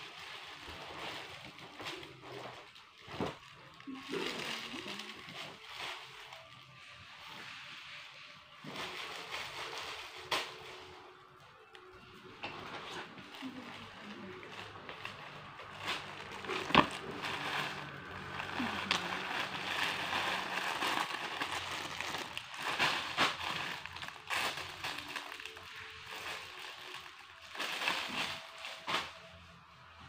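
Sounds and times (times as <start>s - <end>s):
plastic crinkling and rustling: 0.0s - 30.0s.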